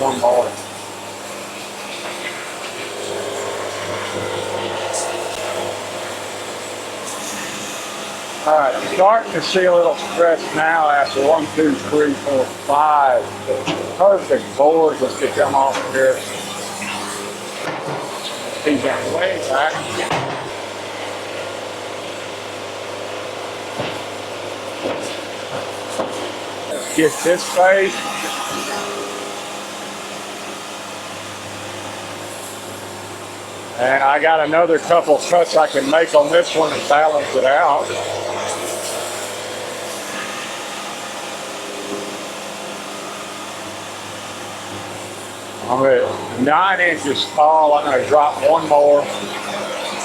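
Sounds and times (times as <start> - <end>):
band sawmill running: 0.0 - 50.0.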